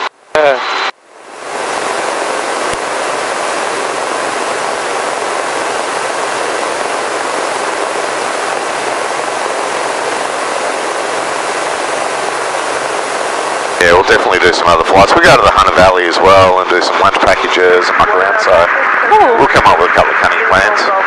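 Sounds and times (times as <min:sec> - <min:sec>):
helicopter cabin noise: 0:00.0 - 0:21.0.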